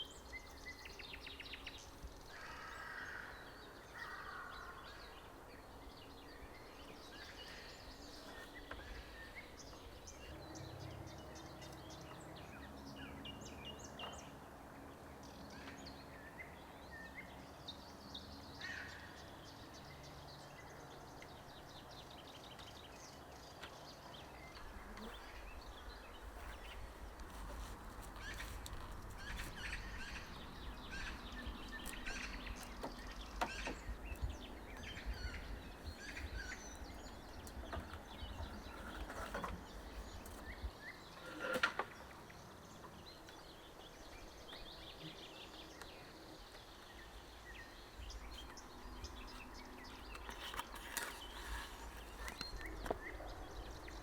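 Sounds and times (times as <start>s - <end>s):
small birds chirping: 0.0s - 14.4s, 15.1s - 54.0s.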